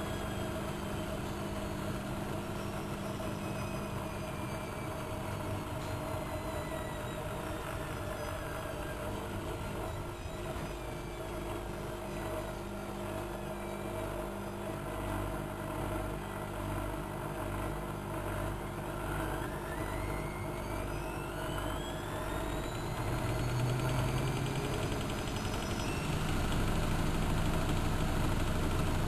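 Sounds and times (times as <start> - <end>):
motor whine rising: 0.0 - 29.0
washing machine hum: 0.0 - 29.0.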